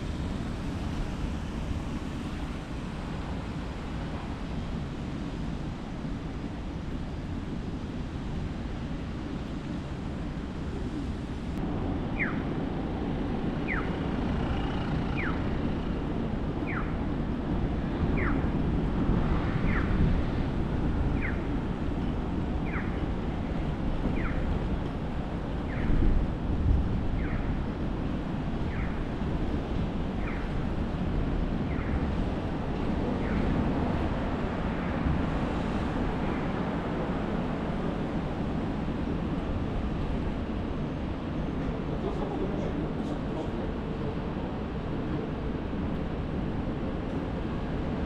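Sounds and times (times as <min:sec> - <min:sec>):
city traffic rumble: 0:00.0 - 0:48.0.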